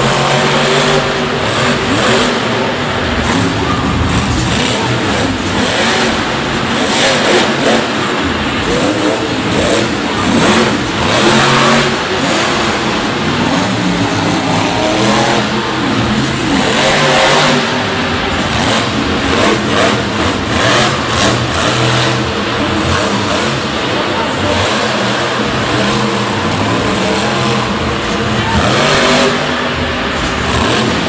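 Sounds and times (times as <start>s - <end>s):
monster truck engine revving: 0.0s - 31.0s.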